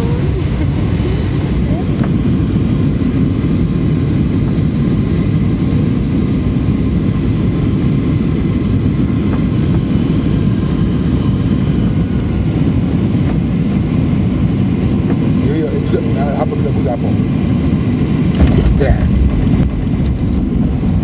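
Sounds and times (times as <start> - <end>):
jet engines low rumble: 0.0 - 21.0.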